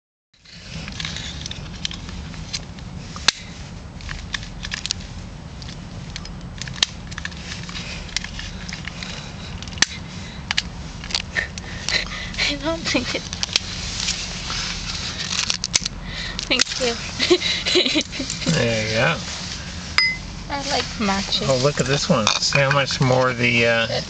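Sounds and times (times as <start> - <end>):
steady low rumble: 0.4 - 24.0.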